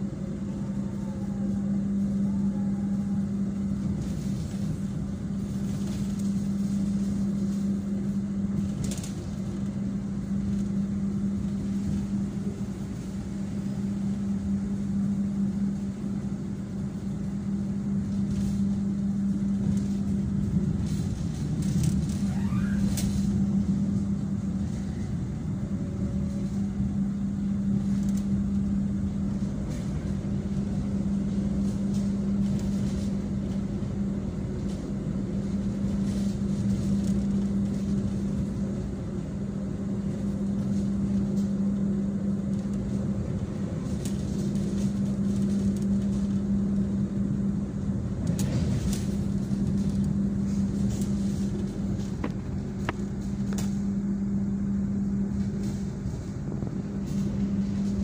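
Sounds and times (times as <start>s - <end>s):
train carriage rumble: 0.0s - 58.0s.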